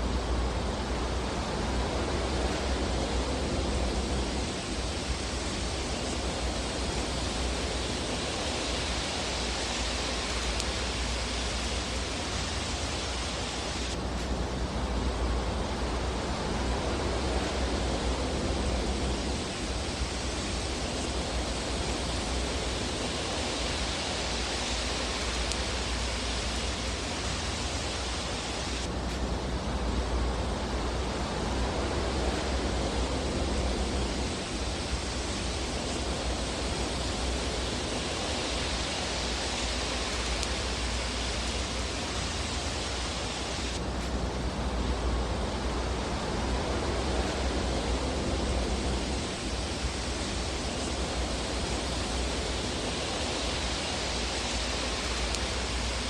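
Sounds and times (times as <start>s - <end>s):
fireplace fire hissing: 0.0s - 56.0s.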